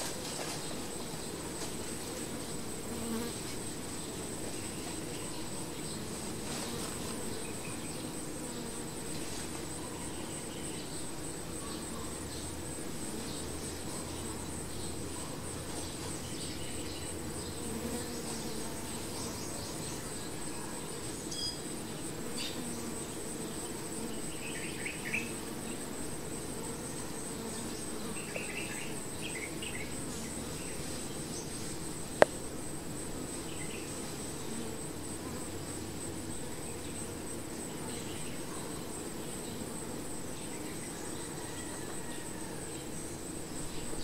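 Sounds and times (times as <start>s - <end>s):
bee swarm buzzing: 0.0s - 11.6s, 15.5s - 41.3s
high-pitched insect trill: 6.5s - 44.0s.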